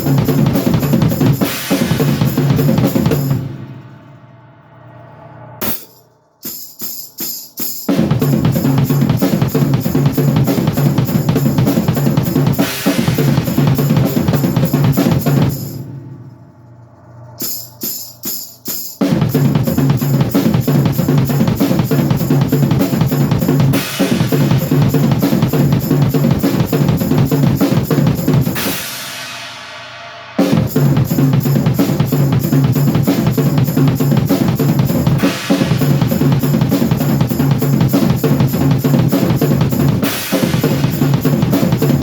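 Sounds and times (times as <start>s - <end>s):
cymbal wash: 0.0s - 42.0s
drum kit strokes: 0.0s - 42.0s.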